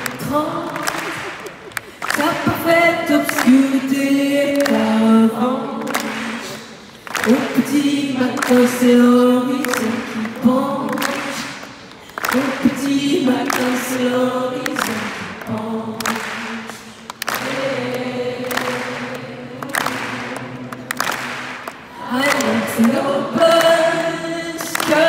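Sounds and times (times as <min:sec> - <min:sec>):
crowd singing together: 0:00.0 - 0:25.0.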